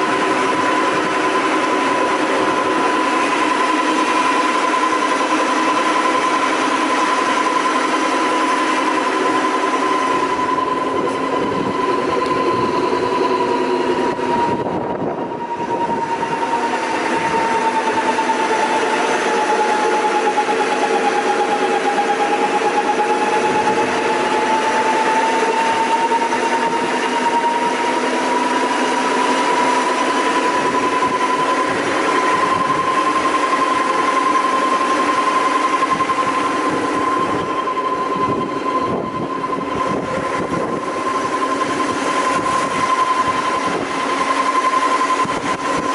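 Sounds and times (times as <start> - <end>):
sanding machine whine: 0.0 - 45.9.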